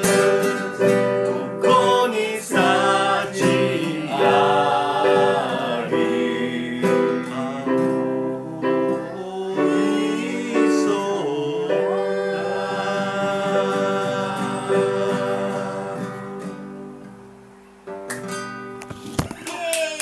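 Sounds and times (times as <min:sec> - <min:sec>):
group singing: 0:00.0 - 0:16.8
acoustic guitar: 0:00.0 - 0:19.5.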